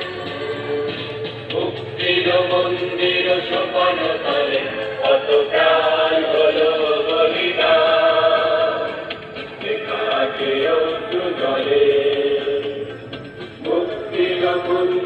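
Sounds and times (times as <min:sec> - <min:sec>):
dance song with singing: 0:00.0 - 0:12.9, 0:13.6 - 0:15.0.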